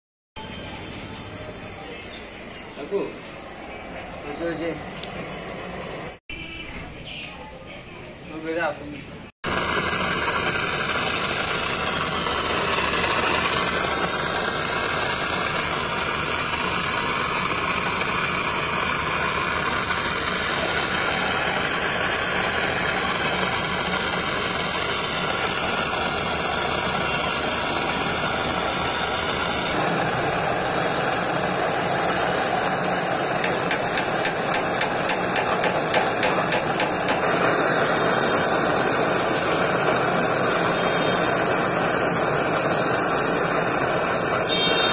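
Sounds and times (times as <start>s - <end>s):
torch flame hissing: 1.6s - 6.2s, 9.4s - 44.9s.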